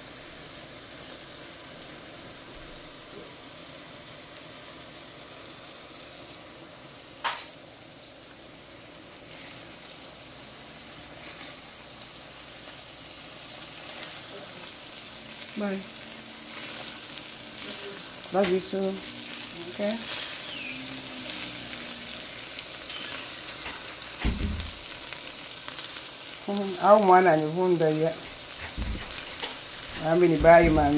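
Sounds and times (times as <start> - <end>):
fish and onions sizzling in oil: 0.0 - 30.9.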